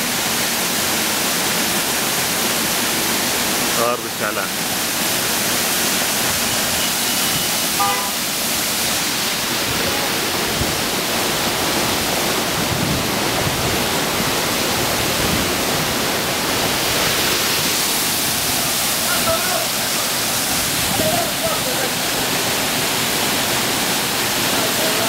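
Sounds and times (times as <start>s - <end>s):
water rushing loudly: 0.0s - 25.0s.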